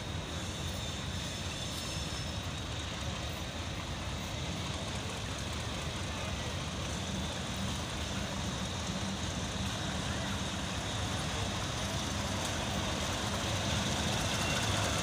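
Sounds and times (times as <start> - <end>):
locomotive engine rumbling: 0.0 - 15.0
thin steady high tone: 0.0 - 15.0.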